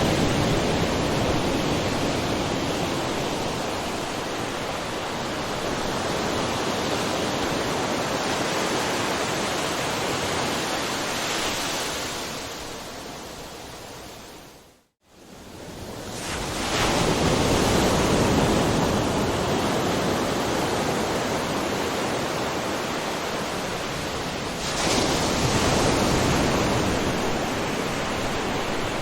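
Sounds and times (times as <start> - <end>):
ocean waves rushing: 0.0 - 13.6, 15.7 - 29.0.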